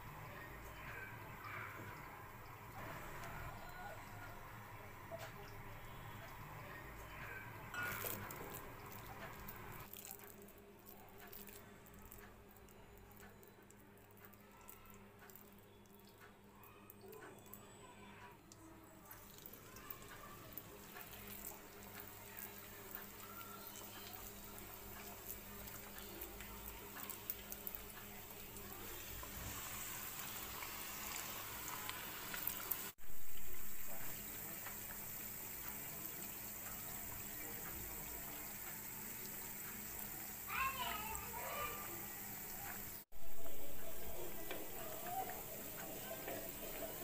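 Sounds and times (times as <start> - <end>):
batter deep-frying in hot oil: 0.0 - 47.0.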